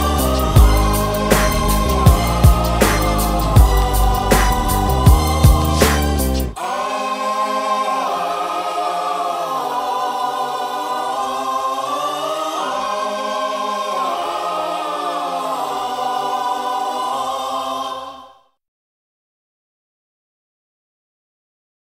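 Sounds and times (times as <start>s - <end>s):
wordless choir sustained chords: 0.0s - 18.5s.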